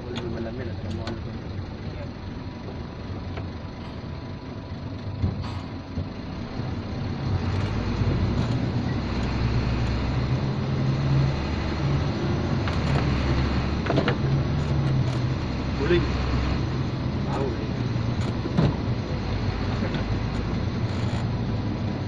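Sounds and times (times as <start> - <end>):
diesel truck engine rumble: 0.0 - 22.0.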